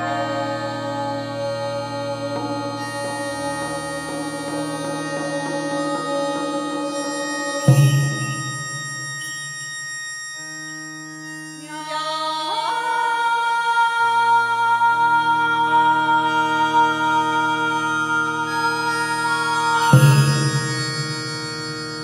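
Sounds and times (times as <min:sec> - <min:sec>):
woman singing high held note: 0:00.0 - 0:08.5, 0:11.4 - 0:20.6
keyboard drone chord: 0:00.0 - 0:22.0.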